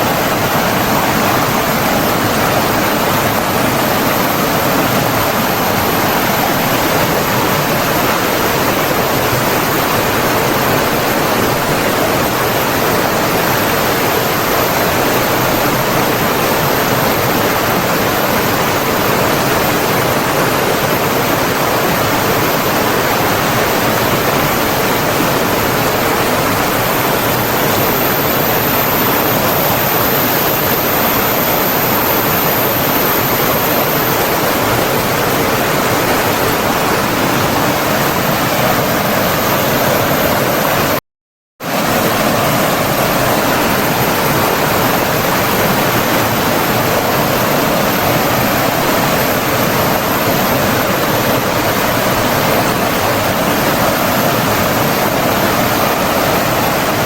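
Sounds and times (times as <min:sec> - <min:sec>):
flowing water rushing: 0:00.0 - 0:41.0, 0:41.6 - 0:57.0.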